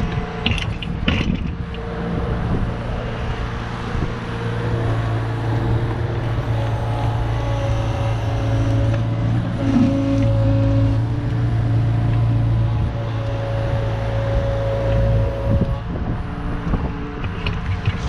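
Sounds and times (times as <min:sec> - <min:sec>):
excavator diesel engine running: 0:00.0 - 0:18.0
hydraulics pulling: 0:00.0 - 0:18.0.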